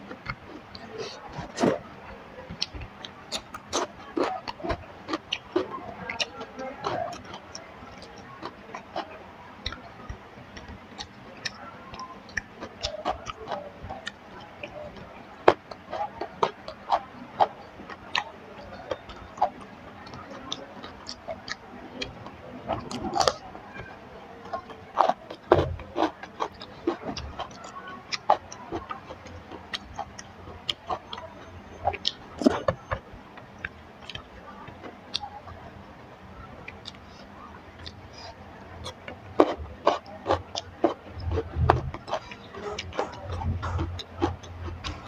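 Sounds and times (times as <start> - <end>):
chewing and mouth noises: 0.0 - 45.0.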